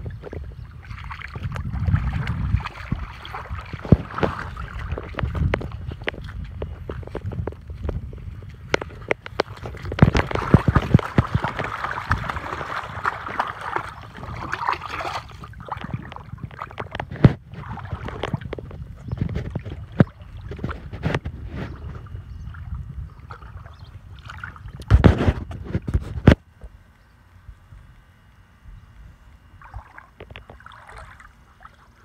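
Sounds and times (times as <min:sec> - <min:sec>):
splashing in shallow water: 0:00.0 - 0:26.2, 0:29.4 - 0:32.0.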